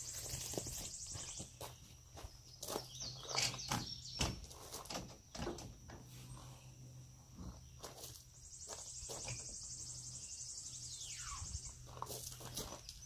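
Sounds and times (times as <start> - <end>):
insects whining: 0.0 - 13.0.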